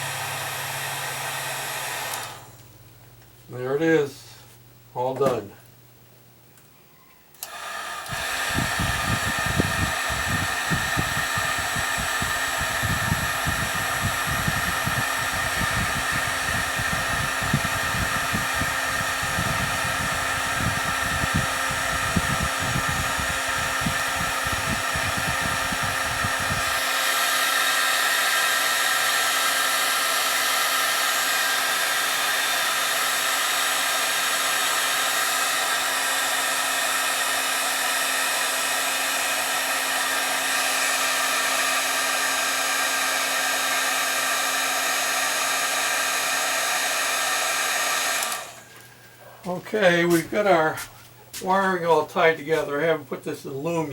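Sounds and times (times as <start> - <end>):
heat gun blowing hiss: 0.0 - 2.6, 7.4 - 49.0, 50.1 - 51.7.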